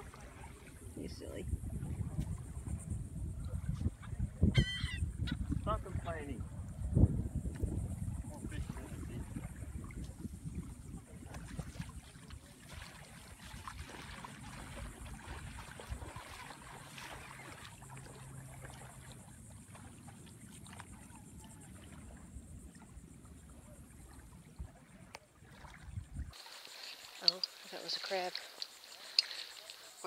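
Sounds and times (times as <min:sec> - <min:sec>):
small waves lapping: 0:00.0 - 0:04.4, 0:05.2 - 0:30.0
wind rumbling on microphone: 0:00.0 - 0:17.2, 0:20.9 - 0:30.0.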